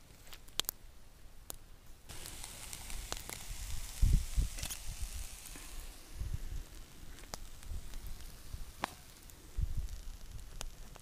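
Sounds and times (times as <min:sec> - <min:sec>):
campfire wood crackling: 0:00.0 - 0:11.0
meat sizzling in a frying pan: 0:02.1 - 0:11.0.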